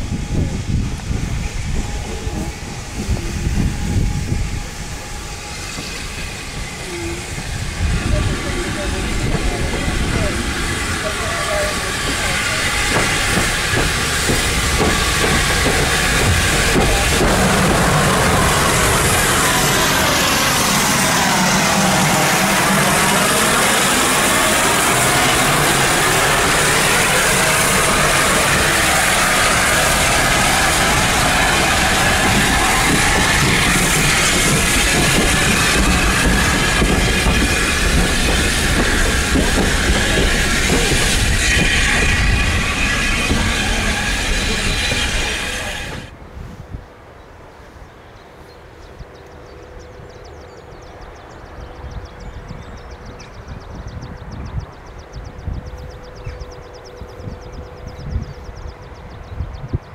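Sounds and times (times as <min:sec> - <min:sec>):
steam train rumbling: 0:00.0 - 0:59.9.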